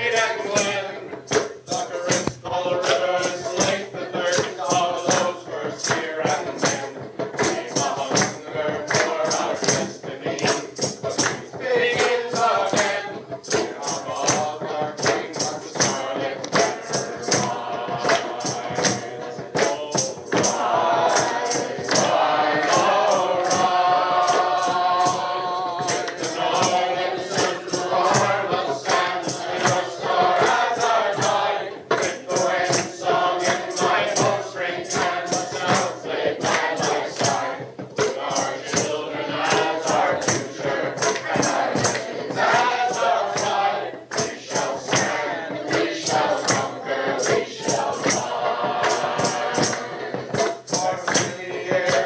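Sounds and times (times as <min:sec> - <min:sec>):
choir singing: 0:00.0 - 0:52.0
percussion beat: 0:00.0 - 0:52.0.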